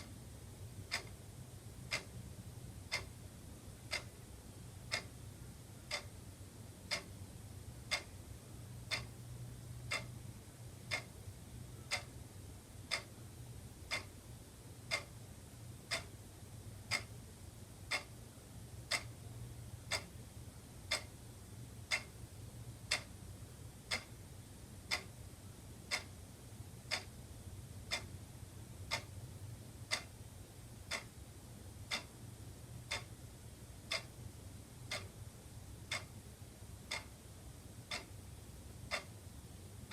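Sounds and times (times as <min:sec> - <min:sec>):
faint low hum: 0:00.0 - 0:39.9
wall clock ticking: 0:00.0 - 0:39.9.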